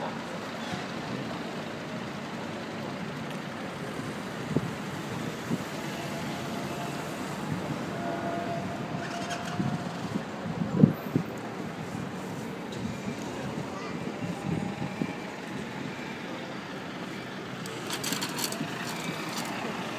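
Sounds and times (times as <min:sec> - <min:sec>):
cars and scooters passing: 0:00.1 - 0:19.9.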